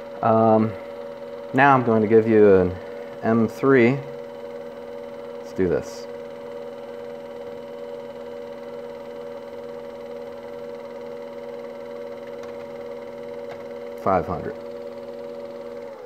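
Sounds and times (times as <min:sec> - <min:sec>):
spindle motor humming: 0:00.0 - 0:16.0.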